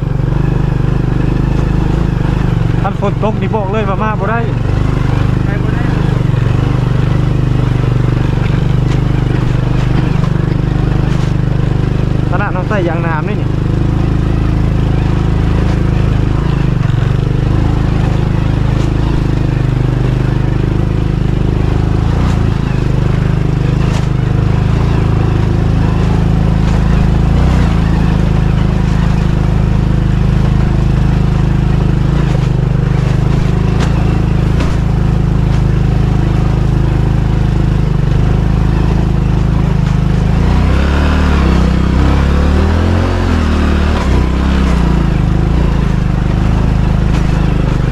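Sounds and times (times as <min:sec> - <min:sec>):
motorcycle engine under load: 0:00.0 - 0:47.9.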